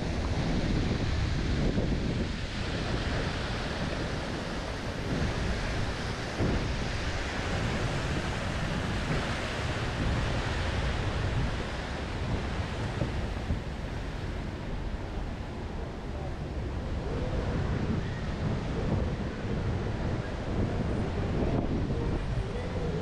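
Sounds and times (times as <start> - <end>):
wind buffeting the microphone: 0.0 - 23.0.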